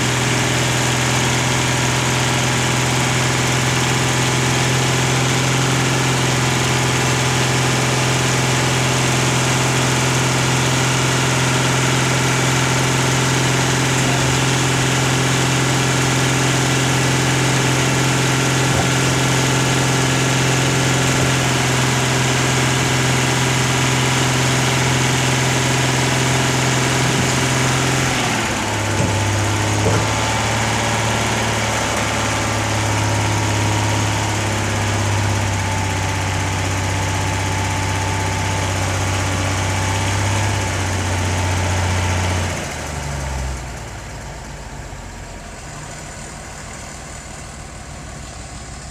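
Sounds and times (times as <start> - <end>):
diesel truck engine running: 0.0 - 48.9.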